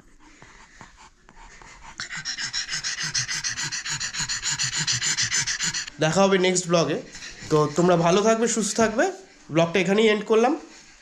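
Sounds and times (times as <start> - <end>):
dog panting fast: 0.0 - 9.6.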